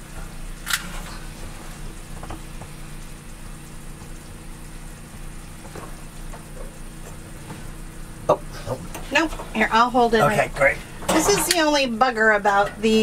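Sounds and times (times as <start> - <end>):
food sizzling in pans: 0.0 - 13.0.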